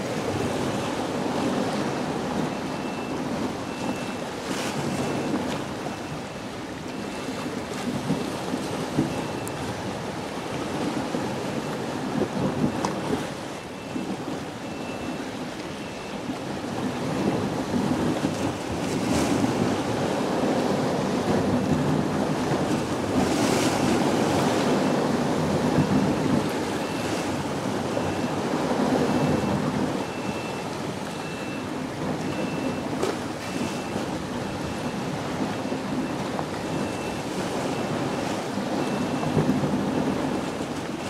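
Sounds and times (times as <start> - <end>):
waves washing: 0.0 - 41.0
wind blowing across microphone: 0.0 - 41.0.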